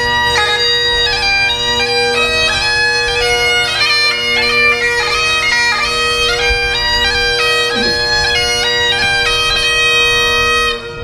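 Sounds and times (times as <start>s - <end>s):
bagpipes playing: 0.0s - 11.0s.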